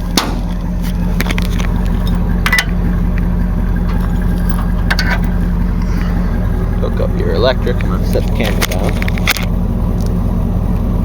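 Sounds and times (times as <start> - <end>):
trailer coupler clicks and clanks: 0.0 - 11.0
truck engine idling: 0.0 - 11.0.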